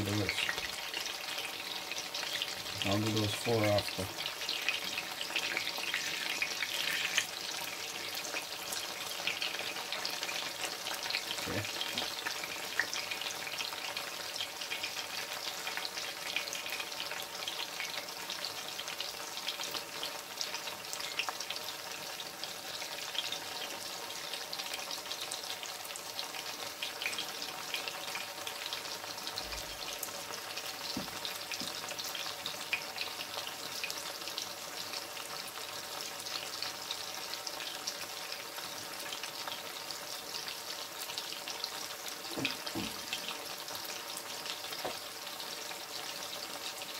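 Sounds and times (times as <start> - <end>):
food deep-frying in oil: 0.0 - 46.9.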